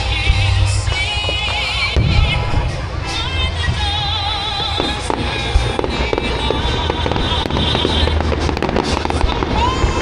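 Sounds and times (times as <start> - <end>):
fireworks bangs and crackles: 0.0 - 10.0
music with singing voice: 0.0 - 10.0
deep thumps of fireworks: 0.3 - 10.0.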